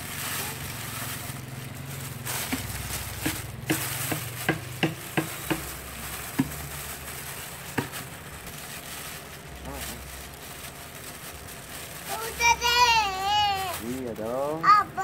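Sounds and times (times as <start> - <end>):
plastic bag rustling and crackling: 0.0 - 15.0.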